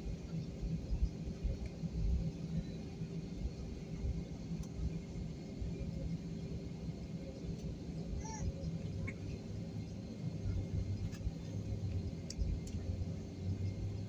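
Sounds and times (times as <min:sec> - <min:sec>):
faint hum: 0:00.0 - 0:14.0
jet engine rumble: 0:00.0 - 0:14.0.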